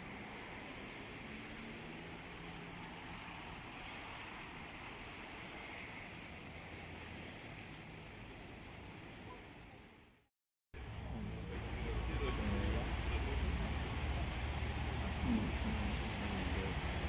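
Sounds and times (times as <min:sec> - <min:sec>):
distant traffic hum: 0:00.0 - 0:10.0, 0:10.8 - 0:17.0.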